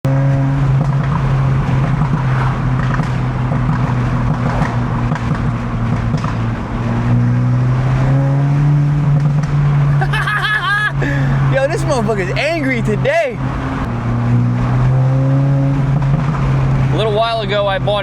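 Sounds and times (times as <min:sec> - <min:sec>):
car engine and exhaust running: 0:00.1 - 0:08.2, 0:08.9 - 0:18.0.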